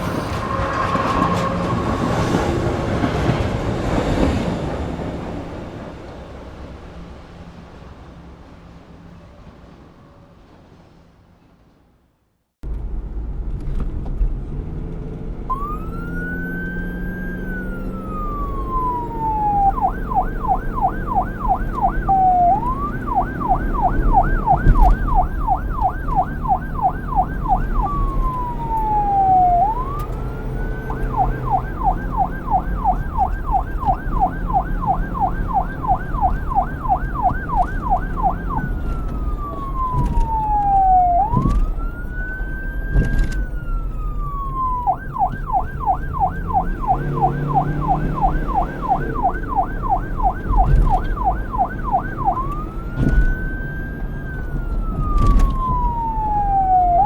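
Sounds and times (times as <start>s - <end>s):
emergency siren wailing and yelping: 0.0s - 4.5s, 15.5s - 57.0s.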